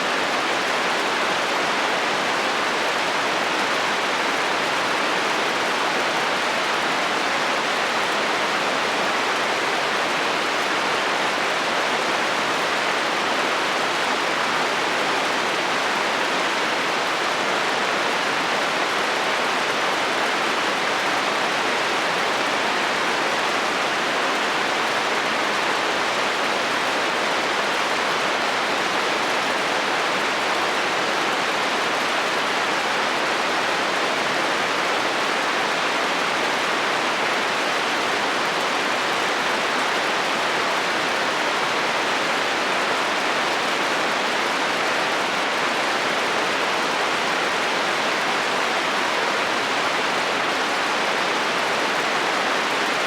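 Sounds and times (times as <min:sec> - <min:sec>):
rain on a metal roof: 0:00.0 - 0:53.0.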